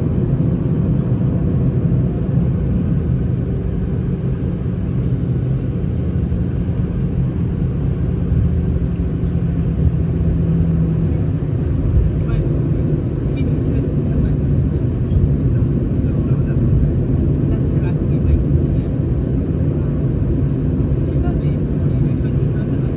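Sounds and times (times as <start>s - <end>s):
airplane cabin drone: 0.0s - 22.9s.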